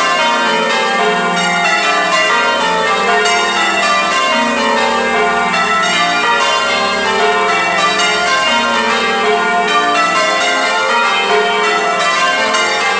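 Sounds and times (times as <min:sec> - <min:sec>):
church bells ringing changes: 0:00.0 - 0:12.9.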